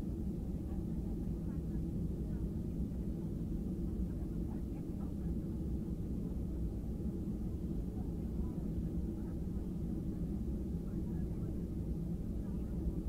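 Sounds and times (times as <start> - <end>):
airplane cabin rumble: 0.0 - 13.0
faint passenger chatter: 0.0 - 13.0.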